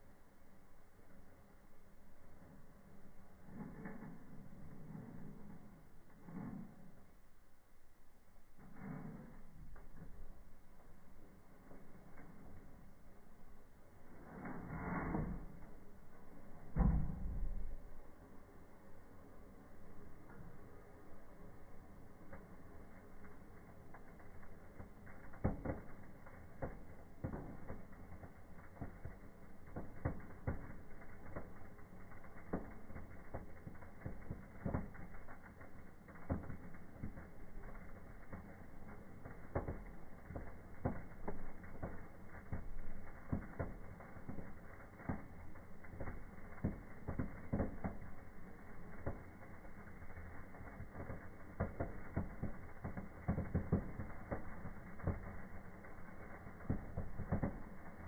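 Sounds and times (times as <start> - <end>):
sparklers crackling: 8.4 - 58.0.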